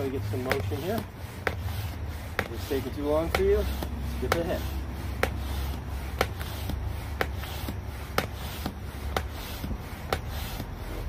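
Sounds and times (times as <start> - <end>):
rushing hiss of air: 0.0 - 11.0.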